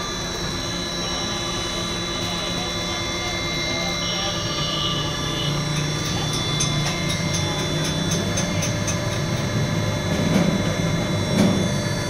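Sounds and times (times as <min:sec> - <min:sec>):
oil press motor hum: 0:00.0 - 0:12.0.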